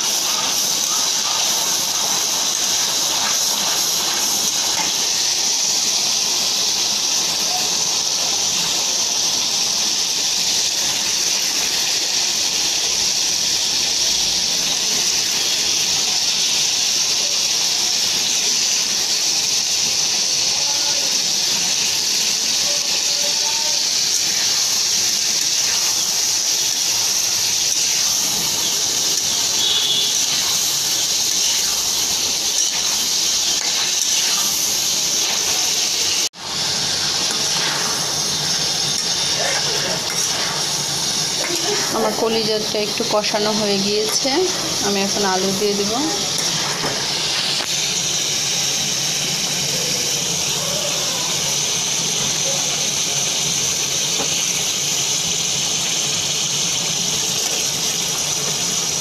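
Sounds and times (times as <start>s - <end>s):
spice paste sizzling in hot oil: 0.0s - 59.0s.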